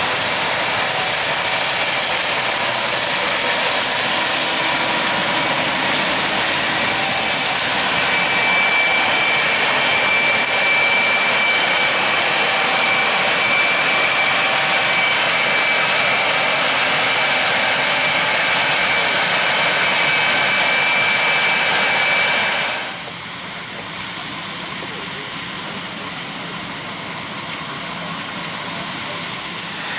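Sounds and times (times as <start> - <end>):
harvest machinery roaring: 0.0 - 29.9
thin high whine: 0.0 - 29.9.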